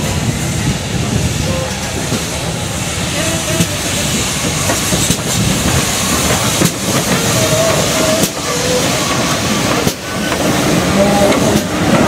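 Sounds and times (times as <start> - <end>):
steam hiss: 0.0 - 12.0
steam locomotive rumble: 0.0 - 12.0.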